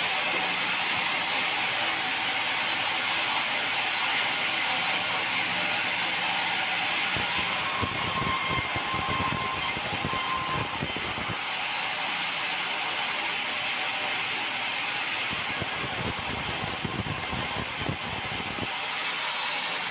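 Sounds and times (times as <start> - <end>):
bandsaw machinery hissing: 0.0 - 19.9.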